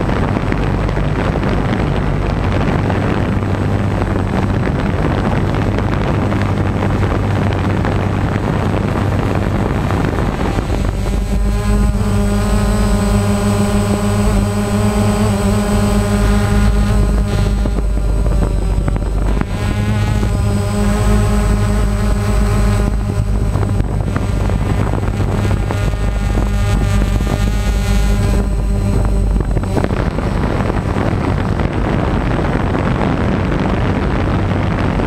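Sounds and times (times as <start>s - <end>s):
engine running steadily: 0.0s - 35.0s
loud rushing noise: 0.0s - 35.0s.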